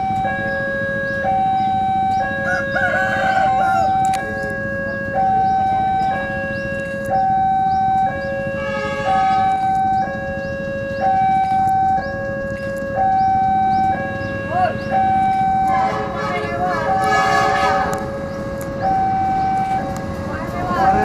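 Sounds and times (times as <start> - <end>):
diesel locomotive approaching: 0.0 - 21.0
level crossing two-tone alarm: 0.0 - 21.0.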